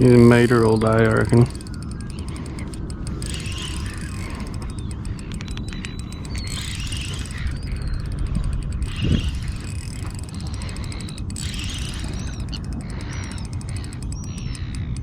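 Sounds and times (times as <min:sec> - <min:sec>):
fishing reel clicking and ratcheting: 0:00.0 - 0:15.0
steady low rumble: 0:00.0 - 0:15.0.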